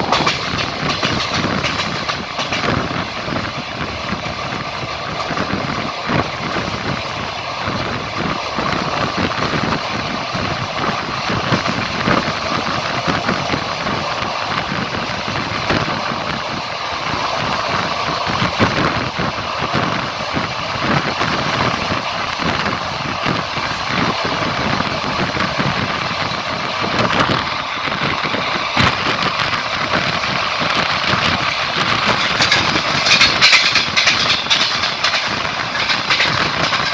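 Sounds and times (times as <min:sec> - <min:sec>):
train rumbling on rails: 0:00.0 - 0:36.9
wheels clattering on track: 0:00.0 - 0:36.9.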